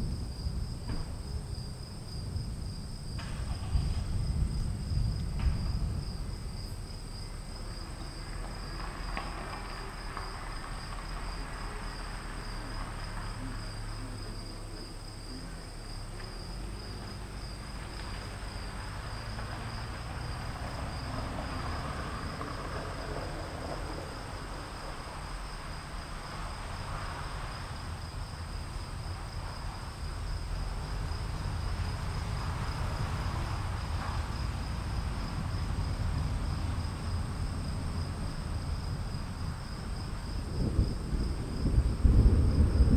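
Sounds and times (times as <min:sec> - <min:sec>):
distant thunder rumble: 0:00.0 - 0:42.9
insects chirring: 0:00.0 - 0:42.9
rain: 0:00.0 - 0:42.9
wind: 0:00.0 - 0:42.9.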